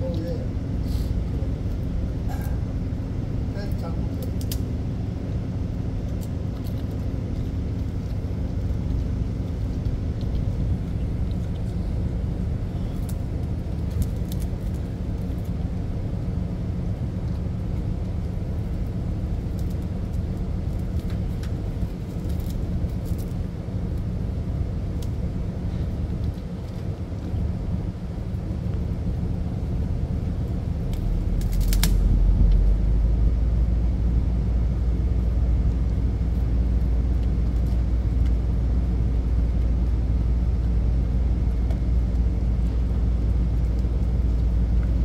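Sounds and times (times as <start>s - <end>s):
ship engines rumbling: 0.0s - 45.0s.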